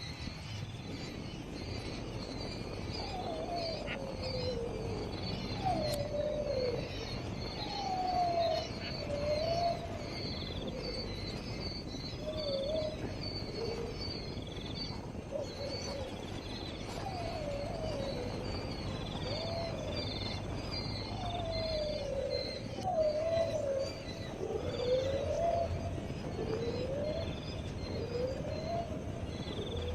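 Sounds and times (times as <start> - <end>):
insect chirps and trills: 0.0 - 29.9.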